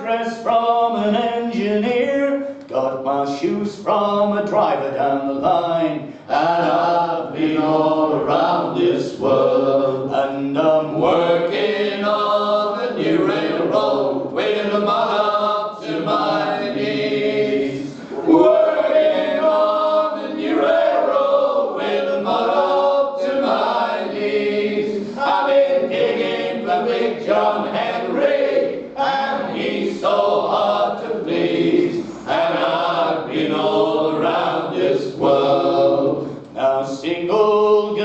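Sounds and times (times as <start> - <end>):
men singing a cappella: 0.0 - 38.0.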